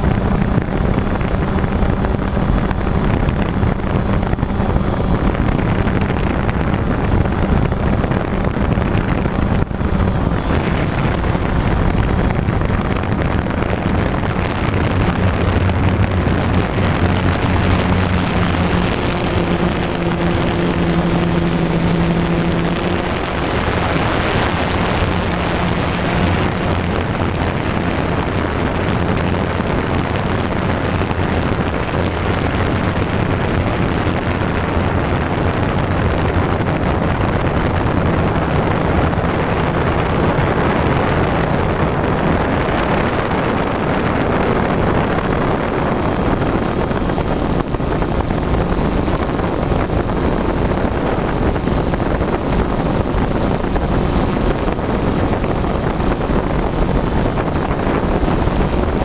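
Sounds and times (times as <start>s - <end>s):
drone motors and propellers: 0.0s - 59.0s
wind rushing over microphone: 0.0s - 59.0s.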